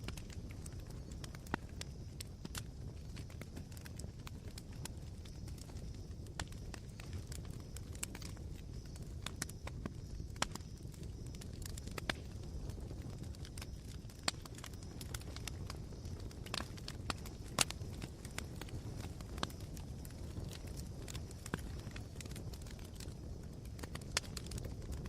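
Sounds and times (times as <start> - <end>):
campfire embers crackling: 0.0 - 25.0.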